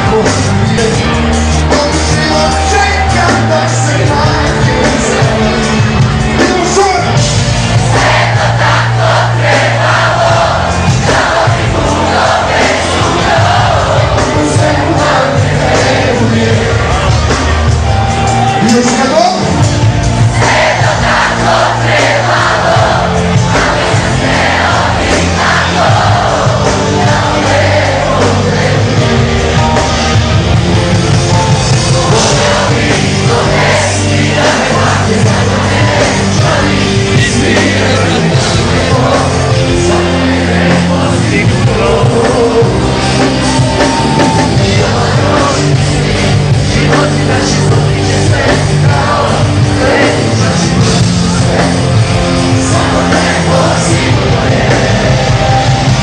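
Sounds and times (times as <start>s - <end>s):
lead singer singing: 0.0s - 56.0s
live rock band: 0.0s - 56.0s.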